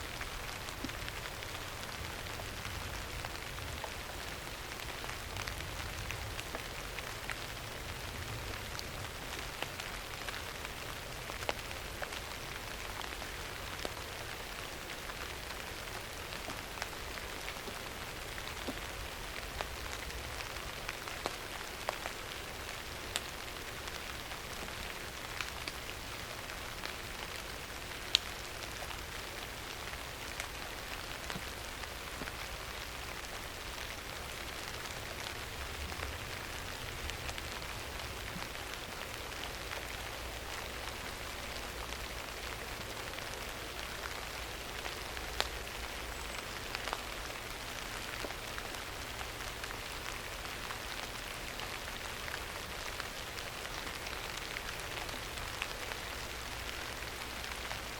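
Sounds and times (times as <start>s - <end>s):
steady rain hiss: 0.0s - 57.9s
rain drop ticks: 8.3s - 12.2s, 12.8s - 22.2s, 23.1s - 57.9s.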